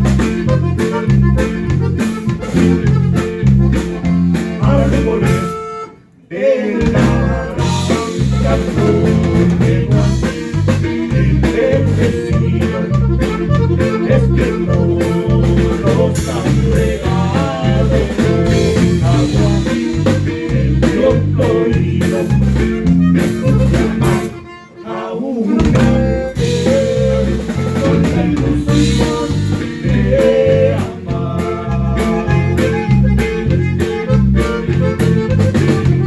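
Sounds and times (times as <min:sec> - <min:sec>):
repeating bass line: 0:00.0 - 0:05.8, 0:06.8 - 0:24.5, 0:25.6 - 0:36.0
live band playing upbeat song: 0:00.0 - 0:06.1, 0:06.8 - 0:24.8, 0:25.5 - 0:36.0.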